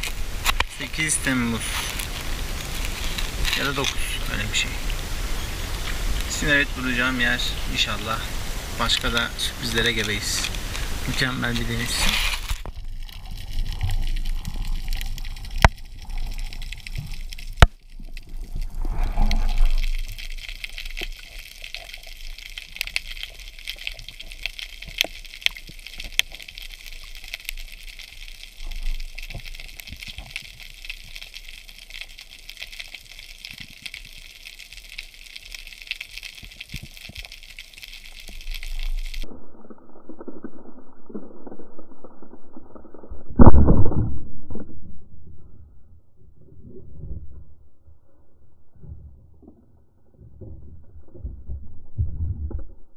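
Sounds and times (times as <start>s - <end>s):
underwater crackle of clicks: 0.0s - 8.2s, 8.8s - 45.0s
rush of water: 0.0s - 44.1s
water splashing: 0.0s - 45.0s.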